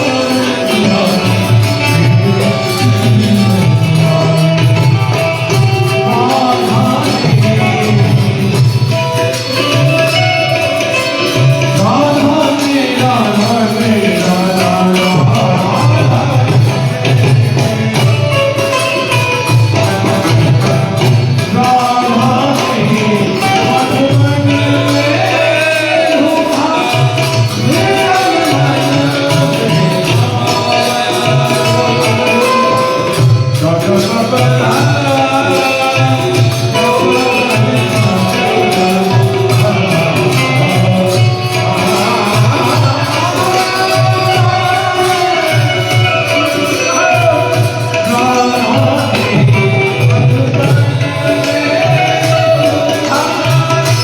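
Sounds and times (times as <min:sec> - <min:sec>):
hand percussion: 0:00.0 - 0:54.0
person singing: 0:00.0 - 0:54.0.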